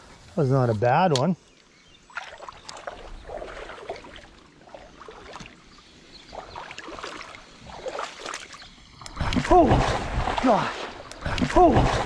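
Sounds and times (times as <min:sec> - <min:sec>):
water sloshing and splashing: 0:02.0 - 0:12.0.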